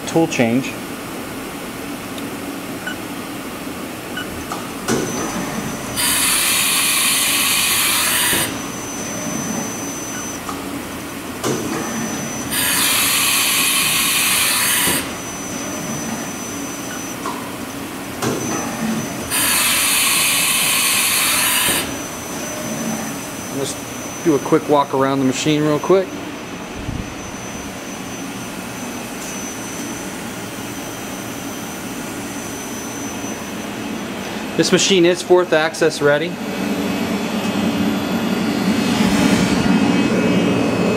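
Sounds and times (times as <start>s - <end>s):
high steady whine: 0.0s - 21.1s, 21.9s - 40.9s
machine hum: 0.0s - 40.9s.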